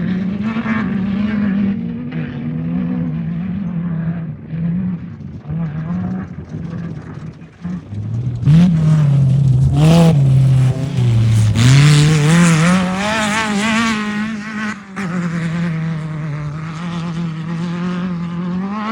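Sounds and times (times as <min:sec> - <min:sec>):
race vehicle engine revving: 0:00.0 - 0:18.9.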